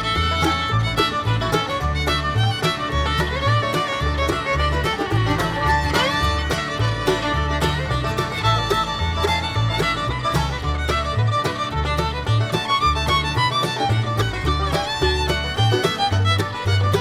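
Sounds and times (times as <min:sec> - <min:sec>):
bouncing bass line: 0:00.0 - 0:17.0
fiddle: 0:00.0 - 0:17.0
guitar: 0:00.0 - 0:17.0.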